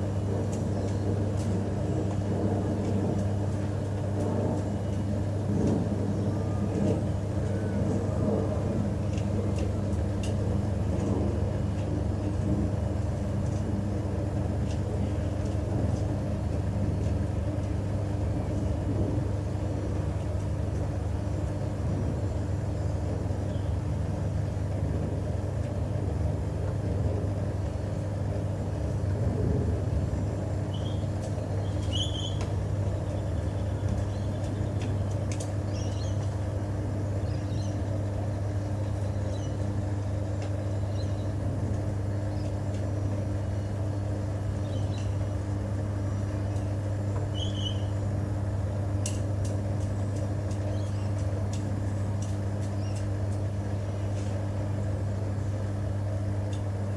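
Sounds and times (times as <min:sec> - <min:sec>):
washing machine humming: 0:00.0 - 0:56.9.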